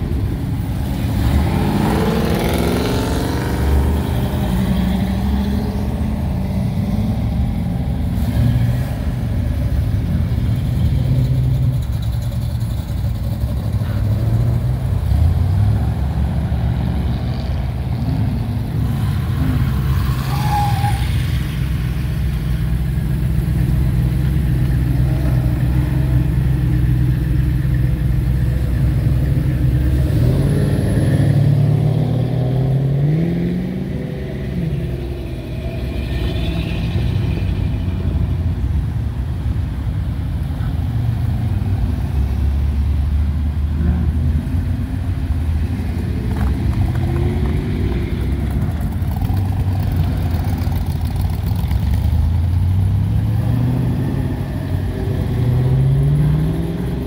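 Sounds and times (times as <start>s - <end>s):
car engines rumbling past: 0.0s - 57.0s.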